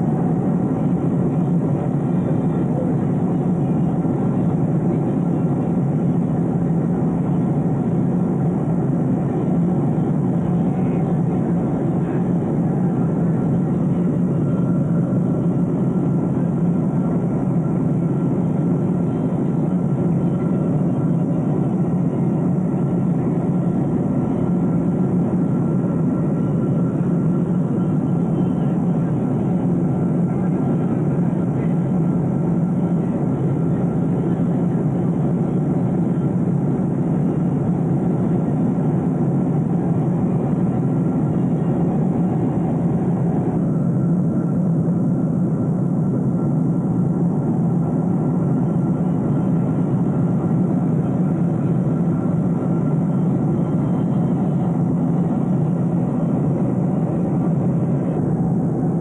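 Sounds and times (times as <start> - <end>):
faint steady whine: 0.0 - 59.0
jet cabin engine and airflow rumble: 0.0 - 59.0.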